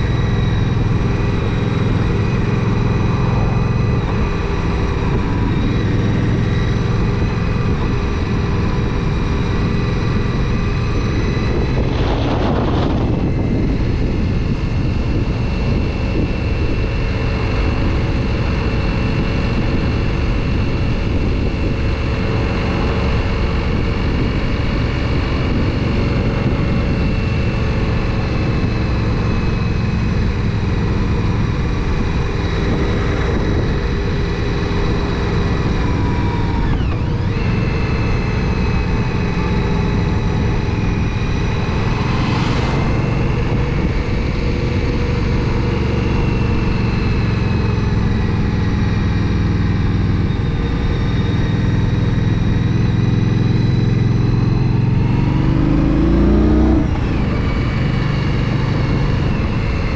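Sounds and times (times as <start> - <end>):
motorcycle engine cruising: 0.0 - 59.9
wind on microphone: 0.0 - 59.9.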